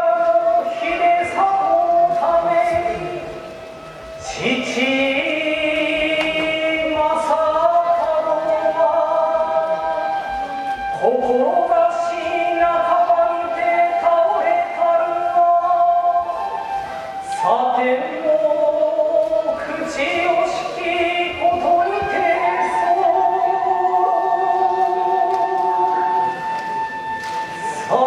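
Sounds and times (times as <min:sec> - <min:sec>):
traditional music ensemble: 0:00.0 - 0:28.0.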